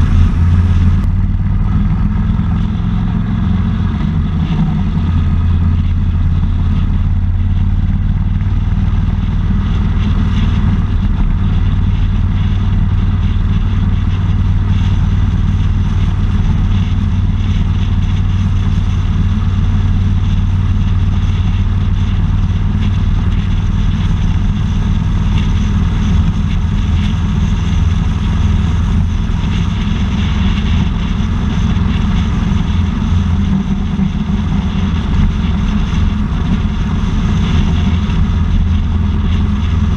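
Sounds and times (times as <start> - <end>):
low engine drone: 0.0 - 39.9
road and wind noise: 0.0 - 39.9.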